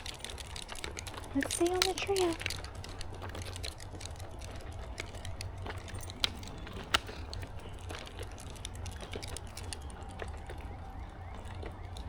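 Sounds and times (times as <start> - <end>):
footsteps crunching on a trail: 0.0 - 12.0.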